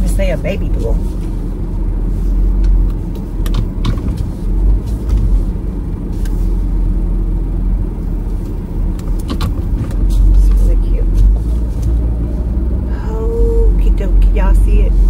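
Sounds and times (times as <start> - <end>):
car cabin road and engine rumble: 0.0 - 15.0.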